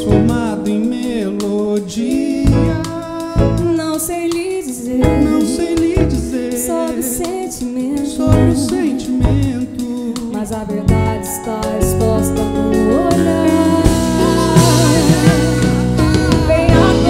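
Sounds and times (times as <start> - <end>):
live band playing pop song: 0.0 - 17.0
person singing: 0.0 - 17.0.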